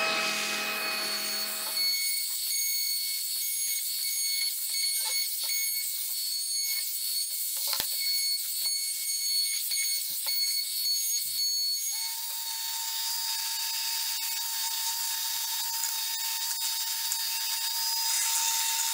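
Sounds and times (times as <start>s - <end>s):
router whining and cutting wood: 0.0s - 18.9s.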